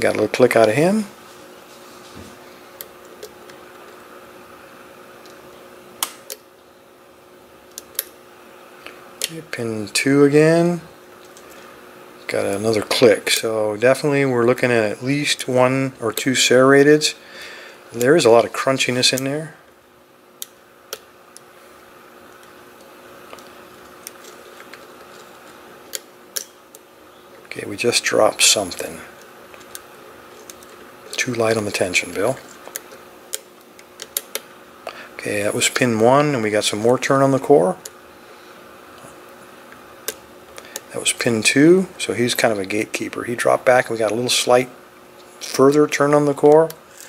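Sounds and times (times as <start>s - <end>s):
faint hum: 0.0s - 47.0s.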